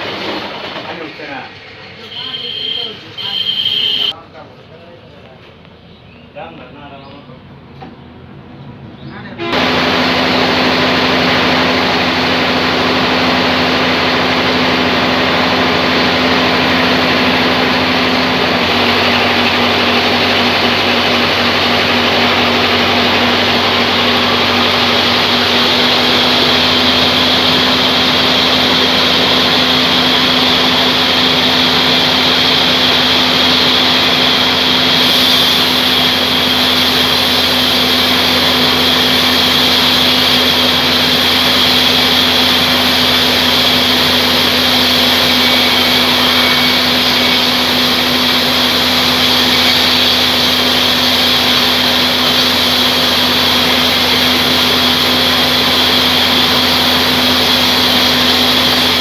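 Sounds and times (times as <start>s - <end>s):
band sawmill running: 0.0s - 4.2s, 9.5s - 59.0s.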